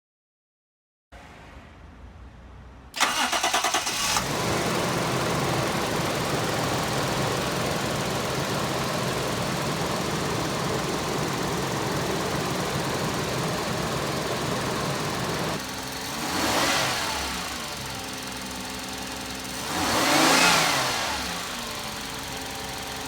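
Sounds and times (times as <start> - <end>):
car engine starting and idling: 3.0 - 23.0.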